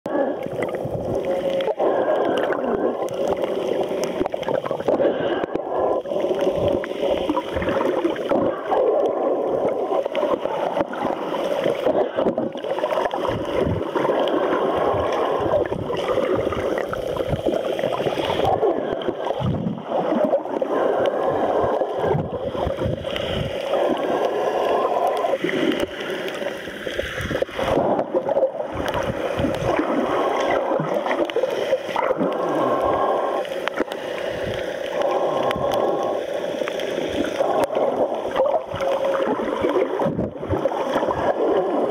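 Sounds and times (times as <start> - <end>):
underwater rushing and gurgling: 0.0 - 41.9.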